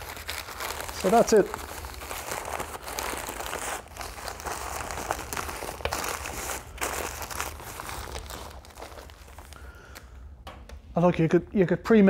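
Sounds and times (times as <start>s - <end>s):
newspaper crumpling and crackling: 0.0s - 10.1s.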